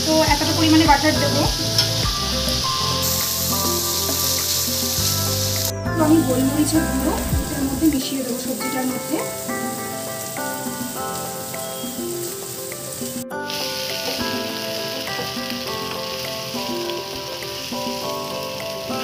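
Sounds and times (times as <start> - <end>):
melodic background music: 0.0 - 19.0
vegetables sizzling in a frying pan: 0.0 - 19.0.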